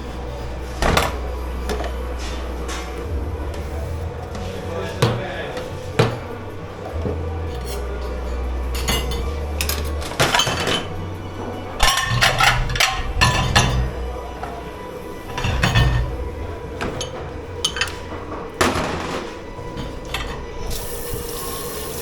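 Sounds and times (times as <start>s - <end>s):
steady low hum: 0.0s - 22.0s
dishes and cutlery clattering: 0.7s - 20.9s.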